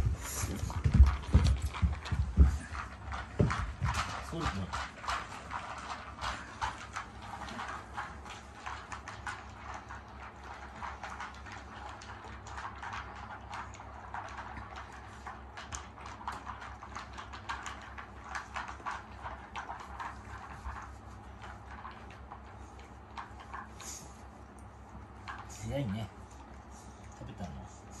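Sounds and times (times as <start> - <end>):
puppies chewing treats: 0.0 - 28.0.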